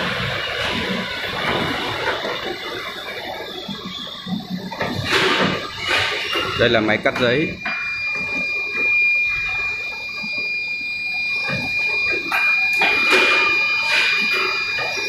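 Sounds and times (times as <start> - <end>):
machinery high-pitched whine: 0.0 - 15.0.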